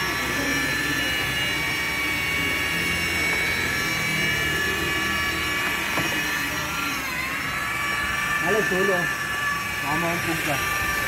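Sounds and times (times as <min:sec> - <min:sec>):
machine whine with high tones: 0:00.0 - 0:11.0.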